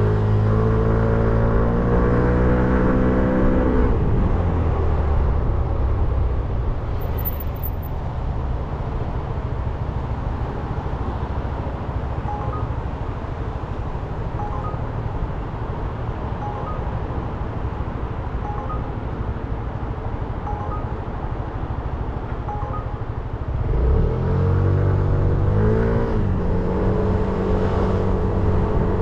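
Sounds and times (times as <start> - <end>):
wind and road noise: 0.0 - 29.0.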